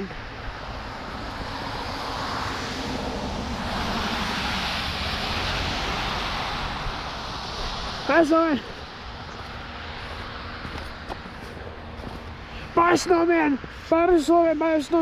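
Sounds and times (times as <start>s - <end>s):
passing motor vehicle: 0.0s - 12.8s.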